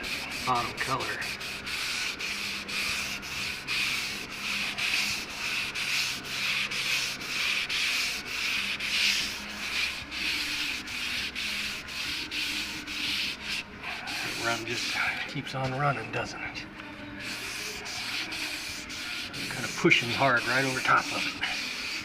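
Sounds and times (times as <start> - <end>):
sandpaper rubbing: 0.0 - 16.0, 17.2 - 22.0.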